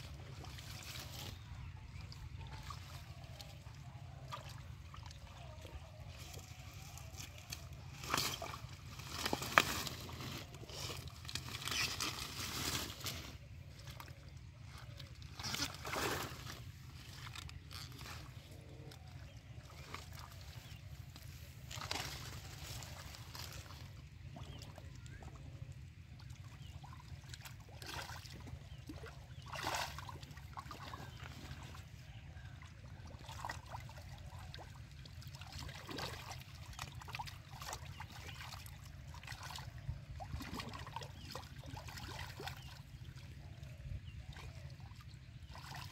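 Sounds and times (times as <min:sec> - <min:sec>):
hands sloshing in muddy water: 0:00.0 - 0:45.9.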